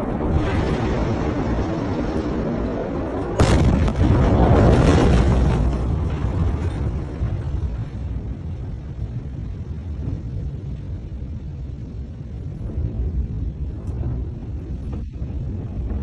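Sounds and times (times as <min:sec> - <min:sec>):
low explosion rumble: 0:00.0 - 0:16.0.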